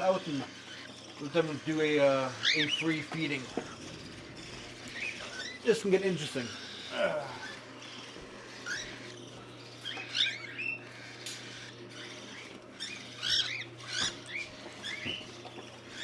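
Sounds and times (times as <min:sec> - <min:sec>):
cockatiels chirping: 0:00.0 - 0:16.0.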